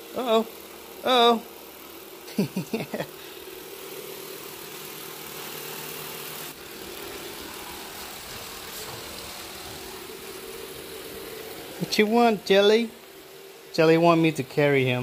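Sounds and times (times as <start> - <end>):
robot vacuum motor hum: 0.0 - 15.0.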